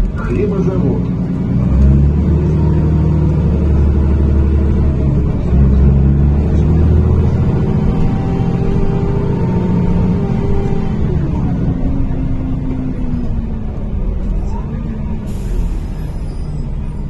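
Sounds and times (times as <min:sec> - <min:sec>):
bus engine hum from inside: 0:00.0 - 0:17.0.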